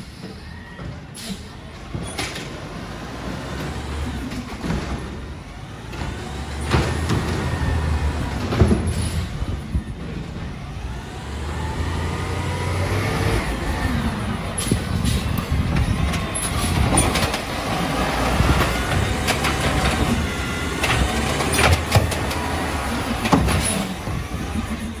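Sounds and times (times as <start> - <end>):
hydraulic arm lifting cart: 0.0 - 25.0
garbage truck engine revving: 1.1 - 25.0.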